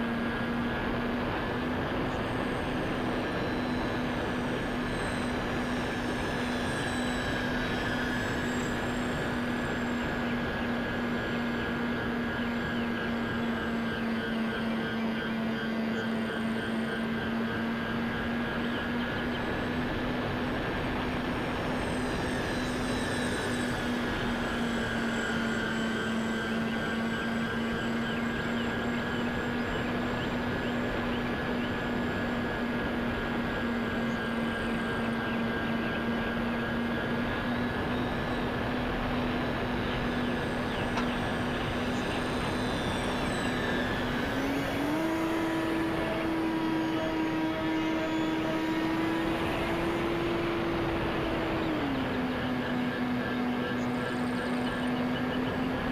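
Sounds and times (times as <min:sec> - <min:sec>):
model plane motor whine: 0:00.0 - 0:55.9.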